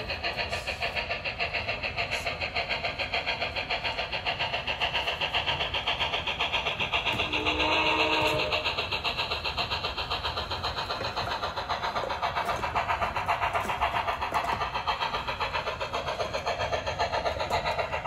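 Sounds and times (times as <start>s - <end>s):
steam locomotive chuffing: 0.0s - 18.0s.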